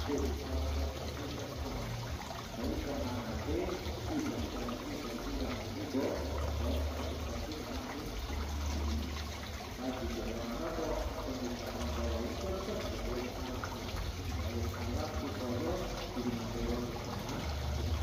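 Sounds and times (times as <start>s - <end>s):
water trickling and gurgling: 0.0s - 18.0s.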